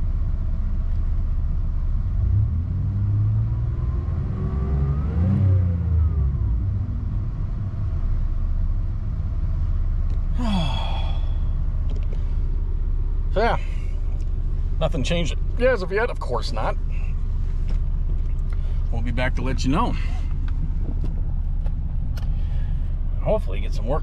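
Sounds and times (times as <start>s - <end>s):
car engine pulling away: 0.0s - 23.8s.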